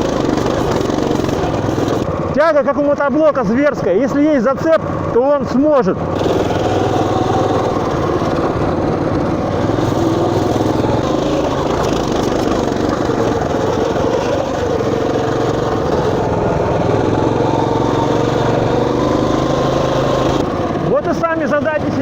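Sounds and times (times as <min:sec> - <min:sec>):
minibike engine running: 0:00.0 - 0:22.0.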